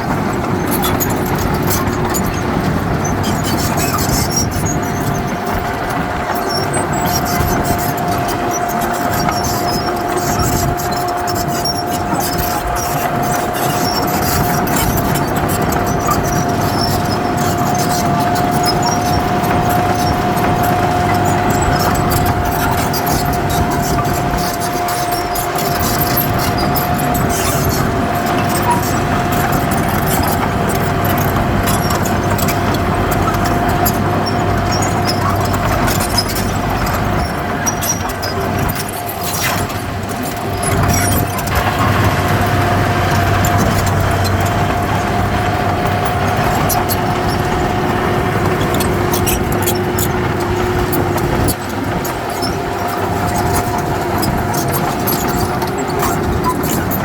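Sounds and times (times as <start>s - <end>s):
constant machine whine: 0.0s - 57.0s
diesel machinery engine rumble: 0.0s - 57.0s.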